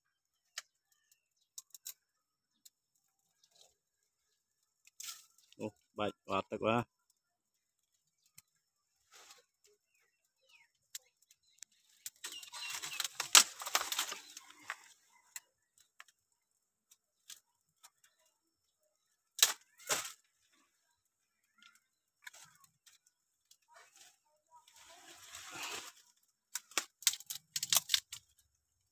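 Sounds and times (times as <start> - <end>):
twigs and leaves crackling: 0.1 - 28.9
twigs snapping: 0.4 - 3.8, 4.4 - 5.6, 8.1 - 18.2, 19.3 - 20.7, 21.4 - 28.6.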